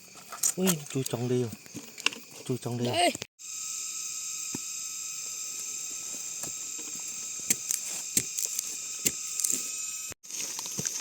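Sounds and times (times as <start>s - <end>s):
forest insects buzzing: 0.0s - 11.0s.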